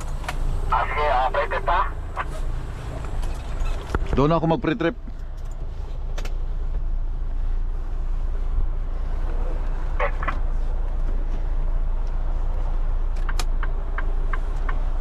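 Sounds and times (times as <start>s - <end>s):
road noise inside cab: 0.0s - 15.0s
truck engine rumble: 0.0s - 15.0s.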